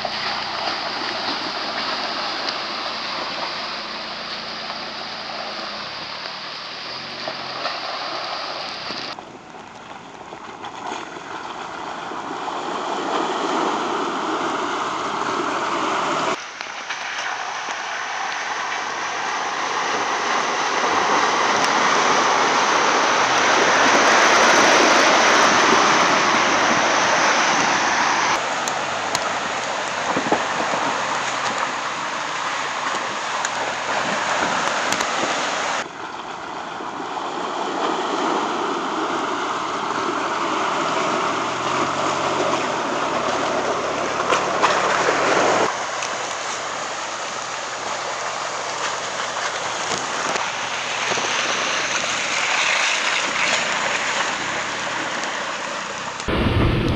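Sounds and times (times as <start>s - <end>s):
rain: 0.0s - 56.9s
splashing water: 0.0s - 56.9s.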